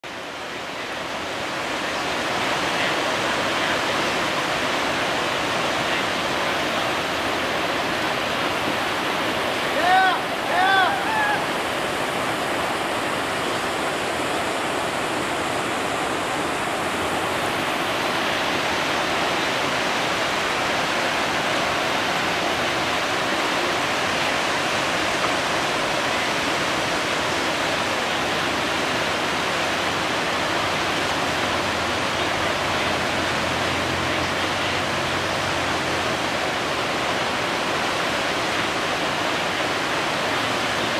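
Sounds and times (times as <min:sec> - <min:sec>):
whitewater rapids rushing: 0:00.0 - 0:40.9.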